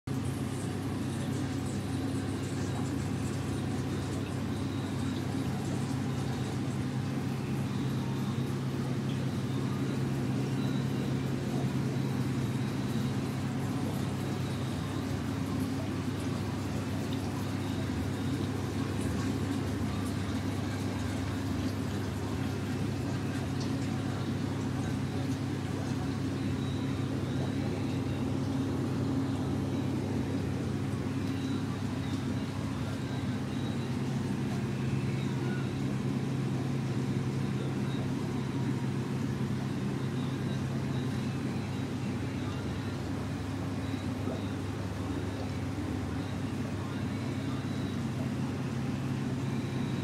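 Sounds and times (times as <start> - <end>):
aquarium filter humming: 0.0 - 50.0.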